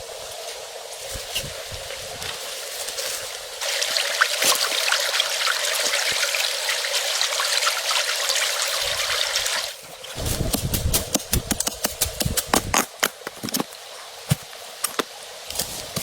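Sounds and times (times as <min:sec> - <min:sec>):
water trickling and splashing: 0:01.7 - 0:16.0.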